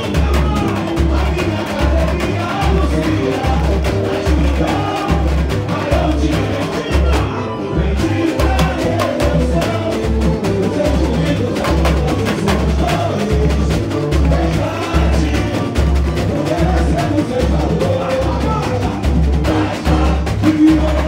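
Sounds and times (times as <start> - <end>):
rattle of snare drums: 0.0 - 7.1, 8.0 - 21.0
deep surdo drum beats: 0.0 - 21.0.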